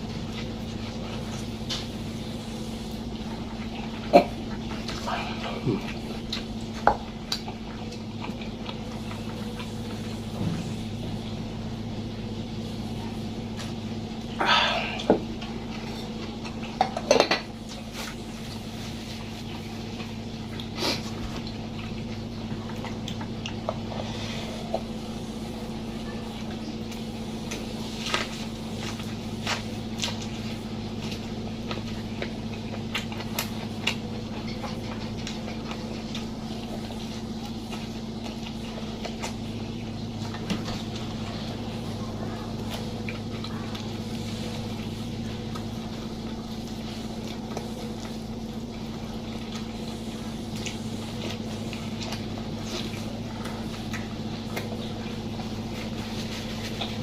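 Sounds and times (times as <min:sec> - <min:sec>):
crunchy chewing: 0:00.0 - 0:57.0
steady low hum: 0:00.0 - 0:57.0.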